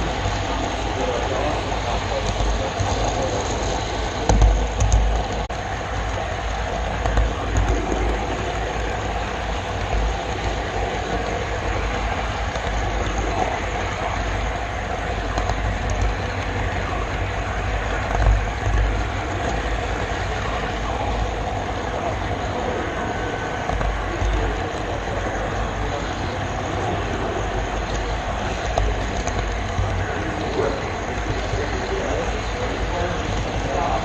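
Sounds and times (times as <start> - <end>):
small wheels rattling on rail: 0.0 - 34.0.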